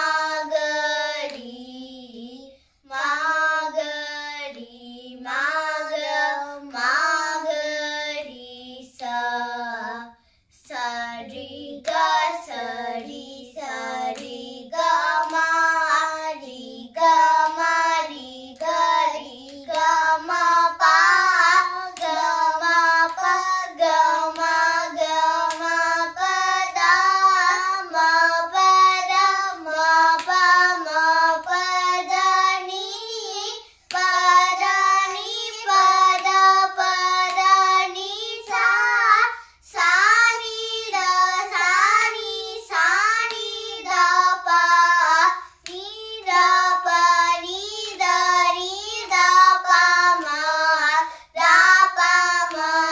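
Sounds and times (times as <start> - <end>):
girls singing together: 0.0 - 52.9.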